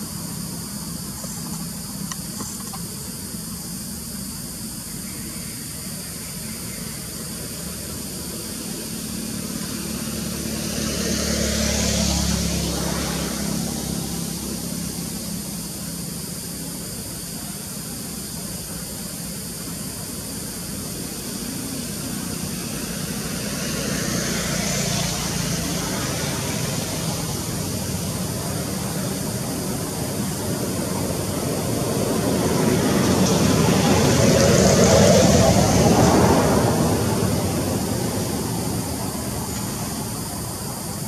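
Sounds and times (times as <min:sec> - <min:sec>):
motor vehicle engine: 0:00.0 - 0:41.0.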